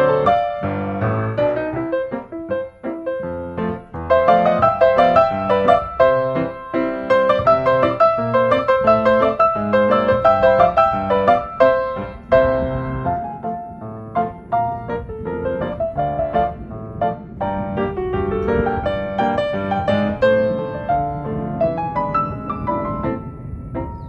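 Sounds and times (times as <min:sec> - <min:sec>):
solo piano playing lively notes: 0:00.0 - 0:24.0.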